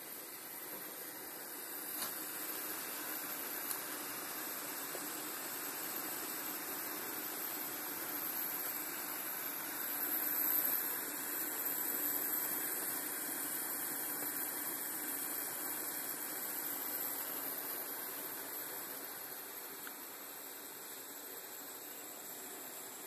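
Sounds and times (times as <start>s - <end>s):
gas burner rushing: 0.0s - 19.0s.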